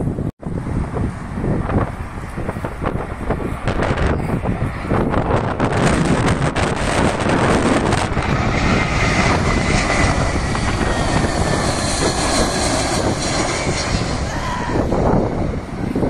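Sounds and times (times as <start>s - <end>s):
faint high jet whine: 0.0s - 16.0s
jet engines passing overhead: 0.0s - 16.0s.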